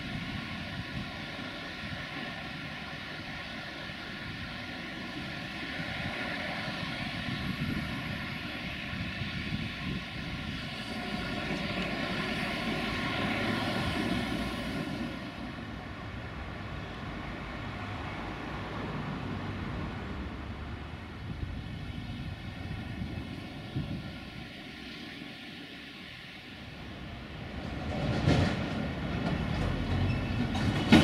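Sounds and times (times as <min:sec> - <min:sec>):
diesel train passing: 0:00.0 - 0:31.0.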